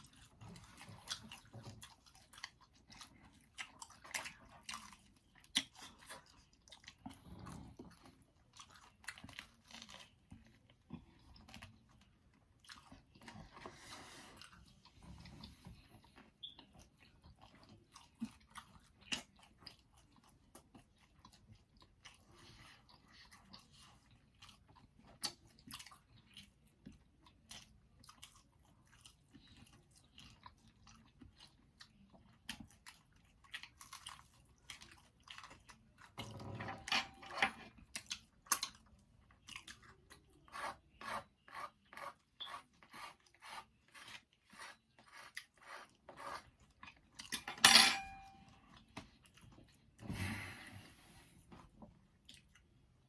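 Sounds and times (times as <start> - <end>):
person chewing crunchy food: 0.0 - 36.5, 37.2 - 47.5, 51.7 - 53.0.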